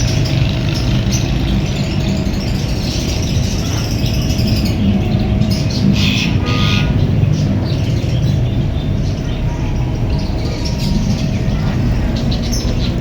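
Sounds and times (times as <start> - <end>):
parakeets chirping and calling: 0.0 - 13.0.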